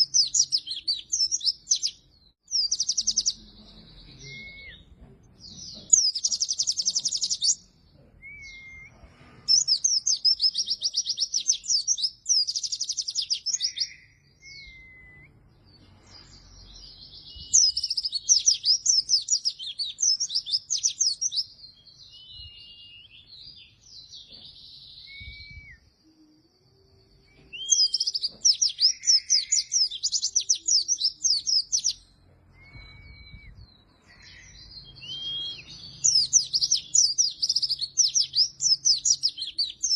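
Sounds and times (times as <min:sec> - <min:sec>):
soft whistled bird notes: 0:02.6 - 0:04.9, 0:08.2 - 0:39.9.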